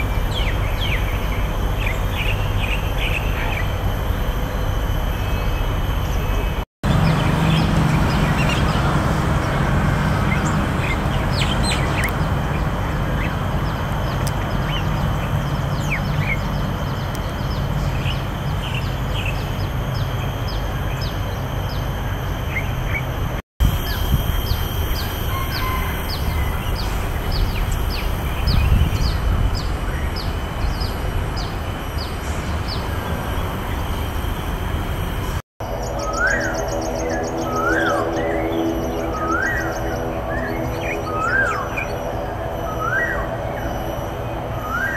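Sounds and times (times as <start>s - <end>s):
birds chirping: 0.0s - 23.2s, 23.8s - 44.9s
steady low rumble: 0.0s - 44.9s.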